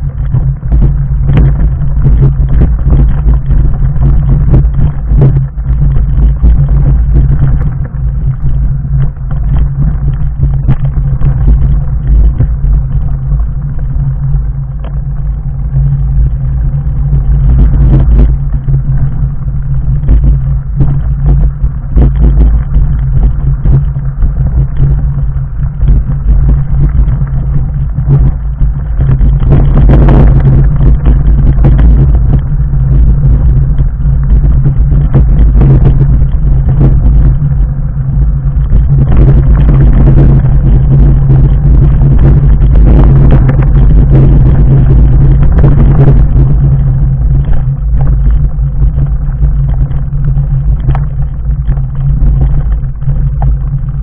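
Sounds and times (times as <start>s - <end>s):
bike tyres rumbling over stones: 0.0s - 54.0s.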